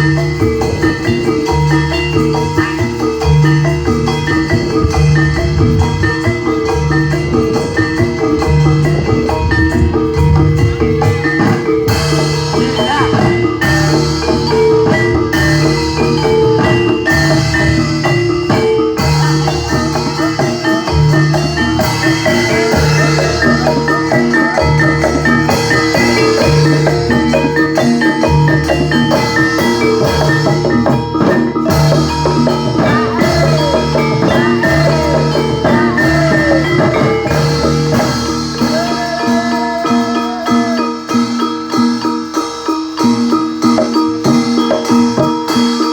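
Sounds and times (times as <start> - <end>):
drums: 0.0 - 45.9
gamelan music: 0.0 - 45.9
struck metal keyed instruments: 0.0 - 45.9.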